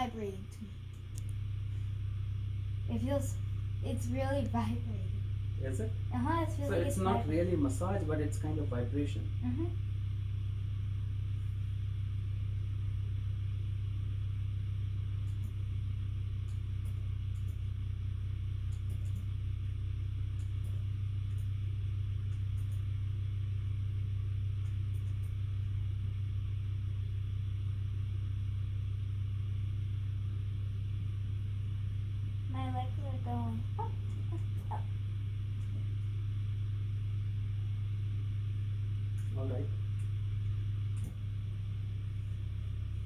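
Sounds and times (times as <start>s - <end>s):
massage motors vibrating hum: 0.0s - 43.0s.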